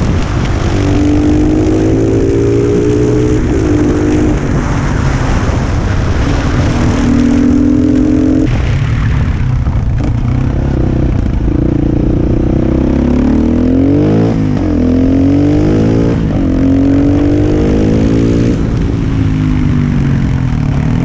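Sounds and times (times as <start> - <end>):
motorcycle engine revving through gears: 0.0 - 21.0.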